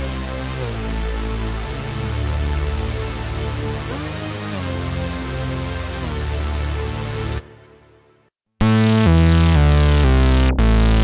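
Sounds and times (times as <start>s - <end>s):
sustained synth bass notes: 0.0s - 7.8s, 8.6s - 11.0s.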